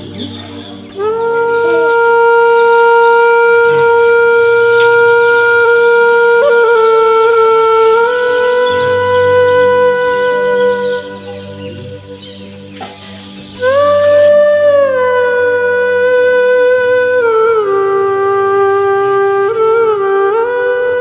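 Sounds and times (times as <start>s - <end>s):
horn-like wind instrument note: 0.0s - 21.0s.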